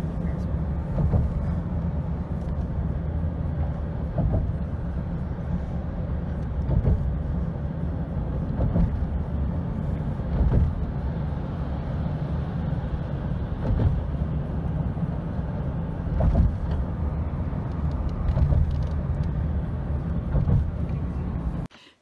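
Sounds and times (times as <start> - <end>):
moving vehicle rumble: 0.0 - 22.0.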